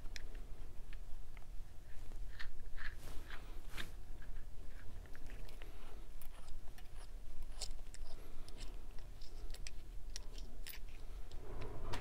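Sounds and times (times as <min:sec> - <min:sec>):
low steady hum: 0:00.0 - 0:12.0
clicks and scrapes of valve parts: 0:02.3 - 0:12.0.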